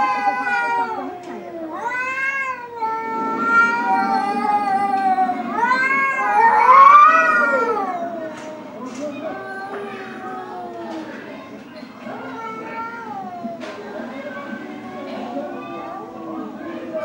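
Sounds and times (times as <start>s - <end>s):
cats yowling: 0.0s - 17.0s.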